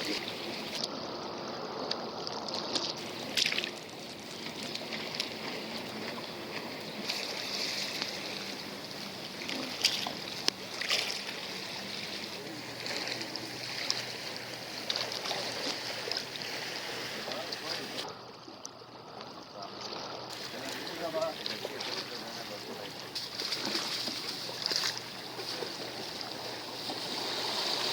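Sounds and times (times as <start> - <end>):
running water: 0.0 - 27.9
water splashes: 0.0 - 27.9.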